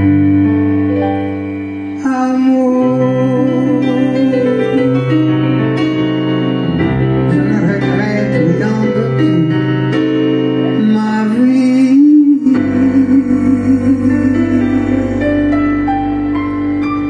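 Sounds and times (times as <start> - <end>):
keyboard playing slow chords: 0.0 - 17.0.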